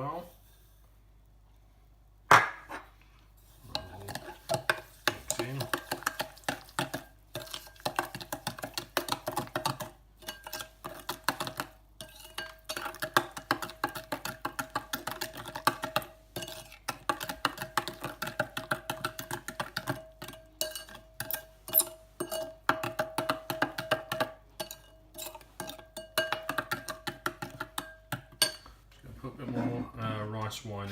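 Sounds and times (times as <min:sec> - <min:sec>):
spoon stirring sauce in bowl: 0:03.4 - 0:28.8.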